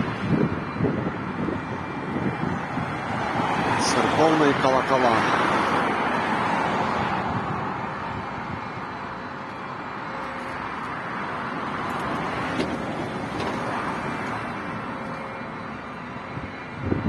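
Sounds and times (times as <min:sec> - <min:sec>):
road traffic hiss and rumble: 0:00.0 - 0:17.0.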